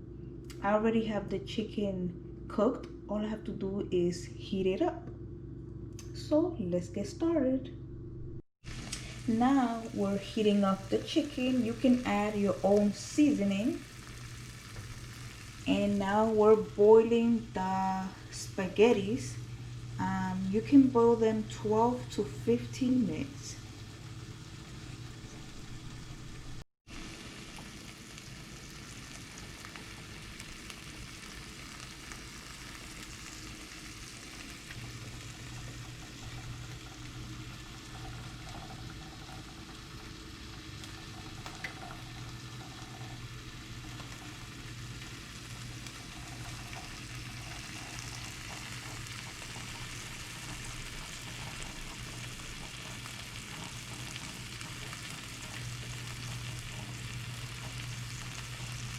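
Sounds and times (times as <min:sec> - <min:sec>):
low steady hum: 0:00.0 - 0:58.9
chicken sizzling in a frying pan: 0:08.6 - 0:58.9.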